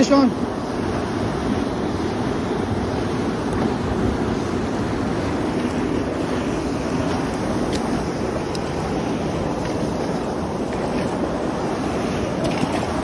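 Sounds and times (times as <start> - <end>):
river rapids rushing: 0.0 - 13.0.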